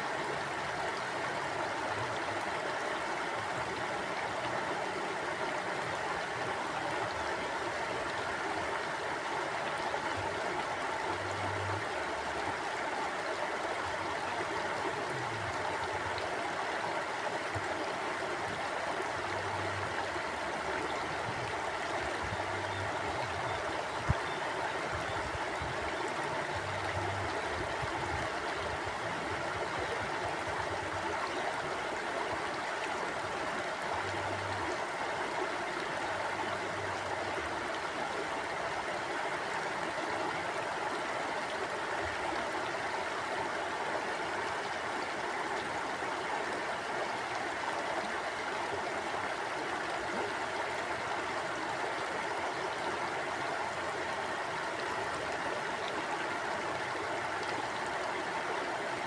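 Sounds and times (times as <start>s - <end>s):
river water rushing and babbling: 0.0s - 59.0s.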